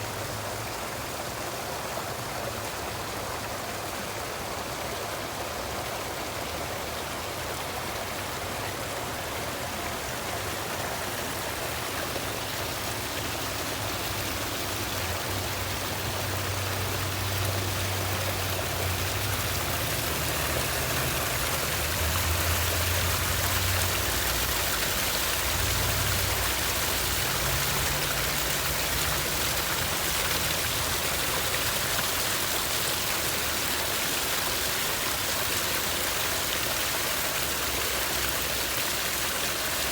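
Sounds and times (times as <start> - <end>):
water feature rushing and splashing: 0.0 - 39.9.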